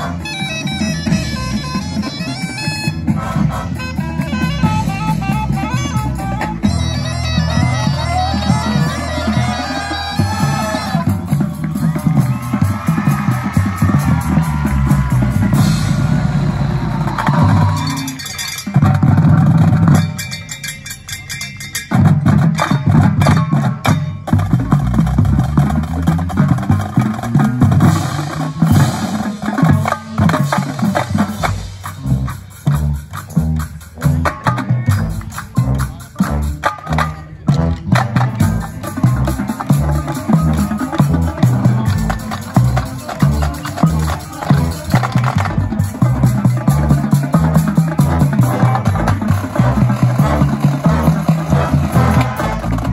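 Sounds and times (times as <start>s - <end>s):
clacking percussion: 0.0s - 52.9s
drum strokes: 0.0s - 52.9s
marching band playing: 0.0s - 52.9s.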